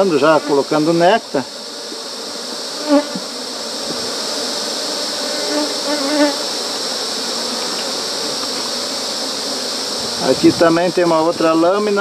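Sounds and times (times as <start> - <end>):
bee flying close buzz: 0.0 - 12.0
high-pitched insect hiss: 0.0 - 12.0
honeybees buzzing: 0.0 - 12.0.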